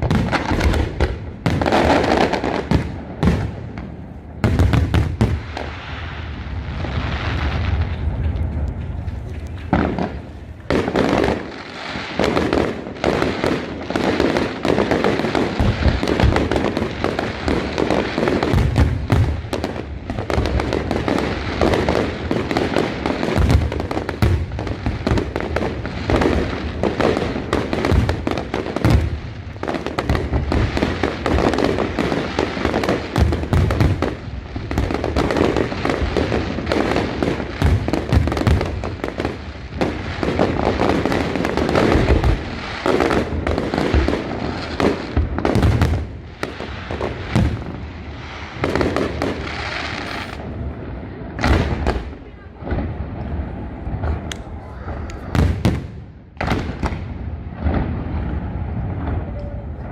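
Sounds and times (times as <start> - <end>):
deep fireworks booms: 0.0 - 59.9
fireworks crackling: 0.0 - 59.9.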